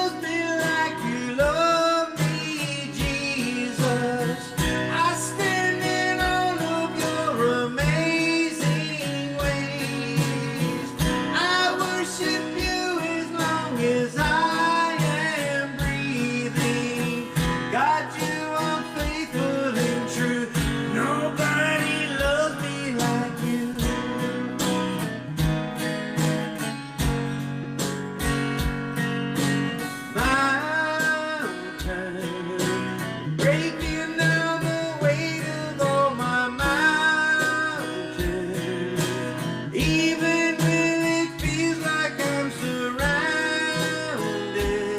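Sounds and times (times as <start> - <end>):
person singing worship song: 0.0 - 24.4, 30.1 - 44.9
strummed acoustic guitar: 0.0 - 44.9.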